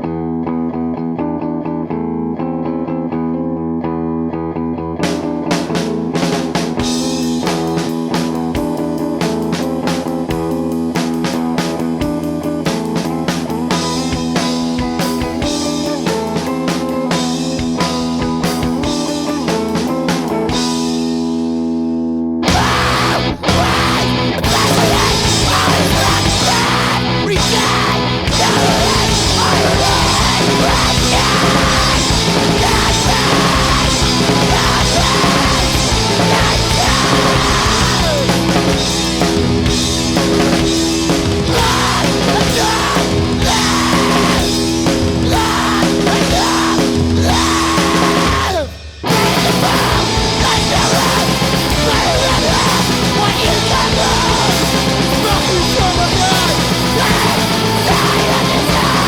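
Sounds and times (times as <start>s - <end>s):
heavy rock music: 4.9s - 59.0s.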